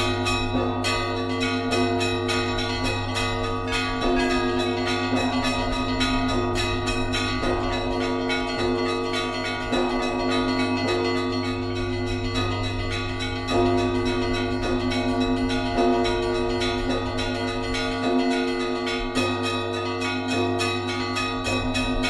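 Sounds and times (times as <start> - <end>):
large church bell: 0.0 - 22.0
small bells chiming: 0.0 - 22.0.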